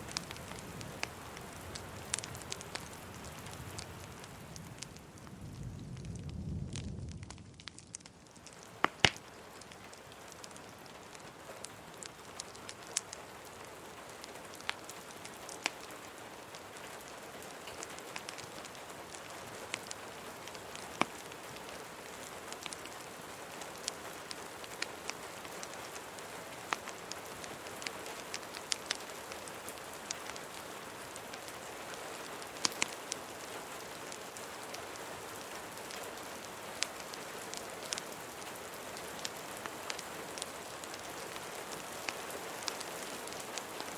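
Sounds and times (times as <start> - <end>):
steady rain hiss: 0.0 - 43.9
wood fire crackling: 0.0 - 43.9.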